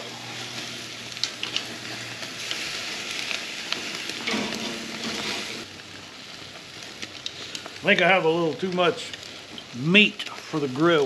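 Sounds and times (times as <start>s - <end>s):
chicken sizzling on grill: 0.0s - 11.0s.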